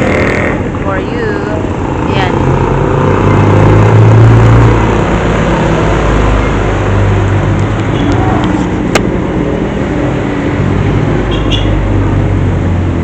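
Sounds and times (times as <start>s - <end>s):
road noise: 0.0s - 13.0s
vehicle engine running: 0.0s - 13.0s.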